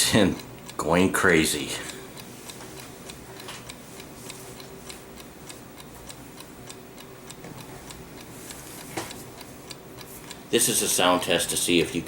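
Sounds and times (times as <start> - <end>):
clock ticking fast: 0.0 - 12.0.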